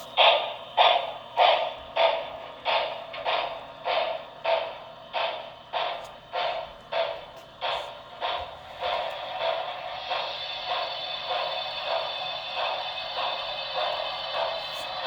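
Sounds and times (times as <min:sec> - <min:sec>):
model steam locomotive chuffs: 0:00.0 - 0:15.0.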